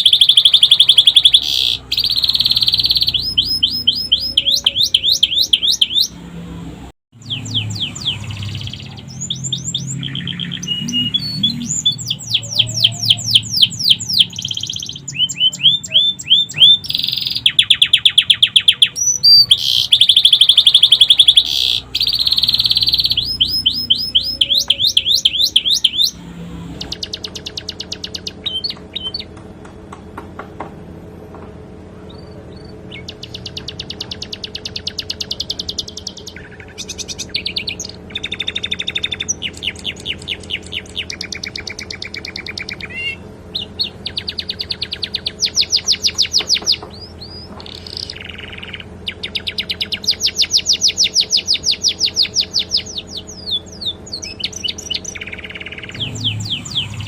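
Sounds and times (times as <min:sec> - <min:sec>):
canary singing trills: 0:00.0 - 0:29.4, 0:32.0 - 0:57.0.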